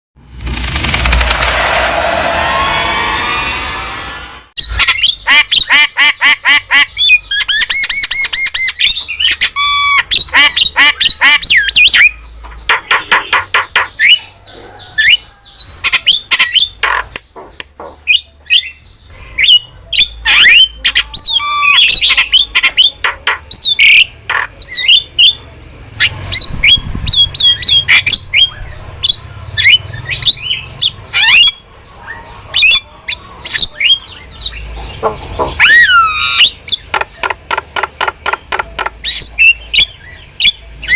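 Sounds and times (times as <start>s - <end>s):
bird squawks: 4.6s - 17.2s, 18.1s - 25.4s, 26.7s - 40.9s
starling singing and chattering: 4.6s - 25.4s, 26.0s - 40.9s.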